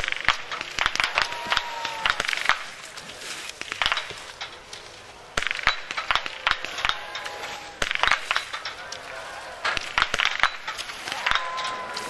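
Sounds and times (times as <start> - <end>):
rifle shots cracking: 0.0 - 12.0.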